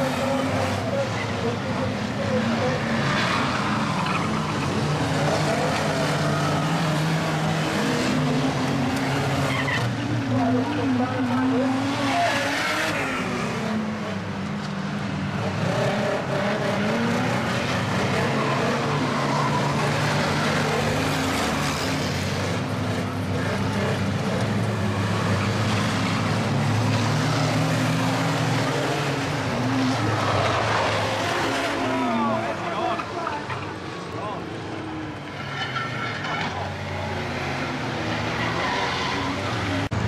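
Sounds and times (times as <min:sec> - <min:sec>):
racing van engines revving: 0:00.0 - 0:40.0.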